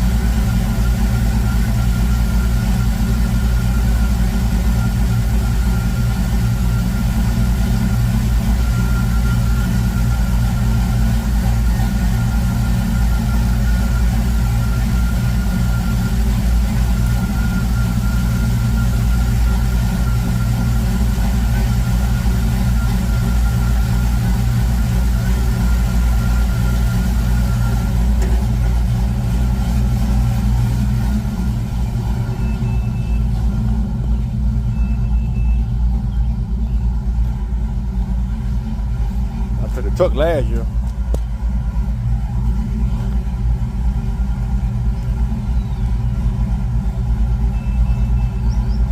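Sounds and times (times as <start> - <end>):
car engine rumbling: 0.0 - 48.9.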